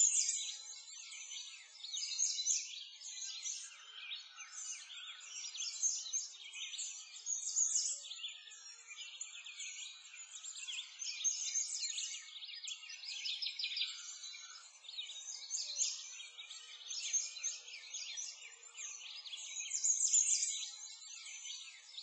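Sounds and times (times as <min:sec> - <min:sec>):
many small birds chirping: 0:00.0 - 0:22.0.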